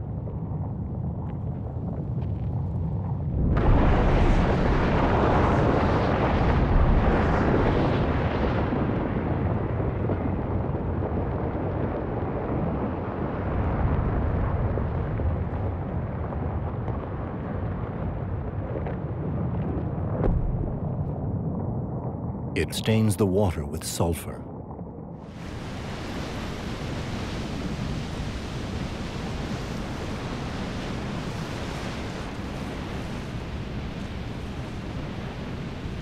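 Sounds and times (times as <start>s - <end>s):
underwater volcanic eruption rumbling: 0.0s - 23.2s, 23.8s - 36.0s.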